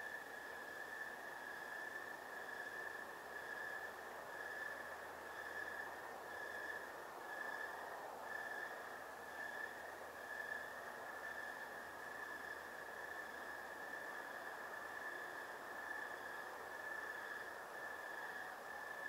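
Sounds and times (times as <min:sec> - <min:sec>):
night insects trilling: 0:00.0 - 0:19.0
soft night background hiss: 0:00.0 - 0:19.0.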